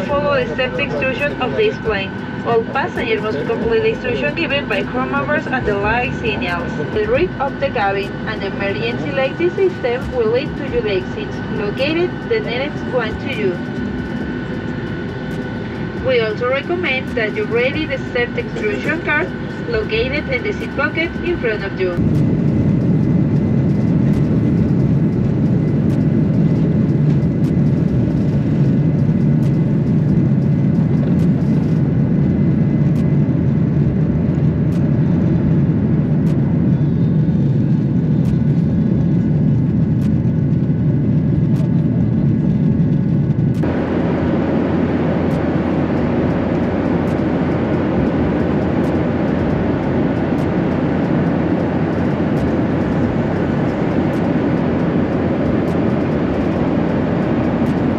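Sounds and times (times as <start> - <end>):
jet engines rumbling: 0.0 - 57.9.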